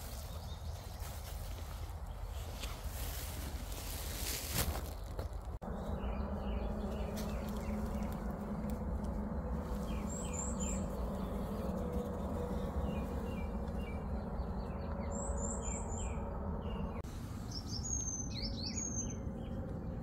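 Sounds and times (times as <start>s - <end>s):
small songbirds chirping: 0.0s - 3.2s, 4.8s - 20.0s
low background rumble: 0.0s - 20.0s.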